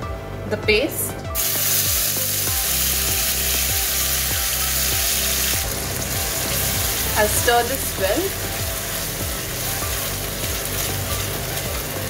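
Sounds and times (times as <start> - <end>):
paste sizzling in hot oil: 1.4 - 12.0.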